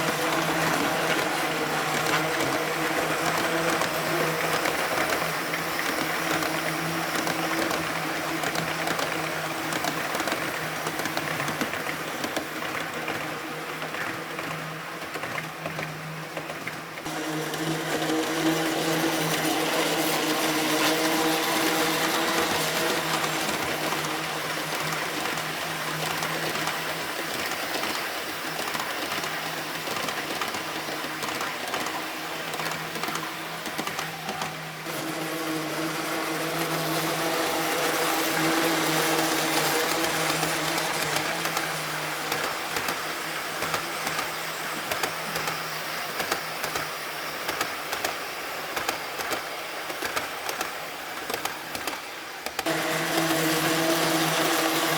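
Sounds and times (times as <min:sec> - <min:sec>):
model train motor humming: 0:00.0 - 0:54.9
wheels rolling on track: 0:00.0 - 0:54.9.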